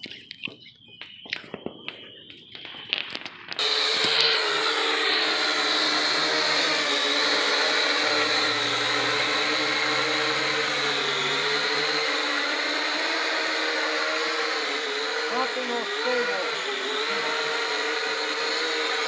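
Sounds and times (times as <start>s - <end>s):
drone propellers whining: 3.5s - 19.0s.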